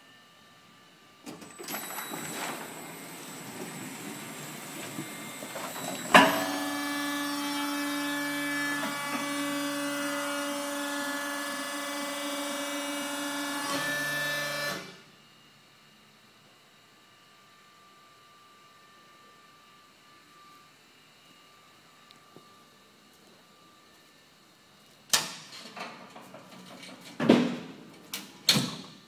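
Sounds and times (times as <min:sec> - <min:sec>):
electric motor hum and whine: 0:00.0 - 0:25.1.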